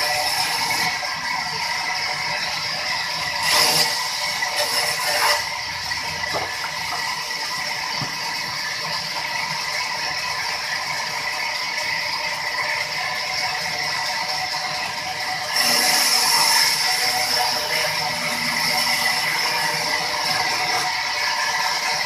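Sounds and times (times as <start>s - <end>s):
band saw whining: 0.0s - 22.0s.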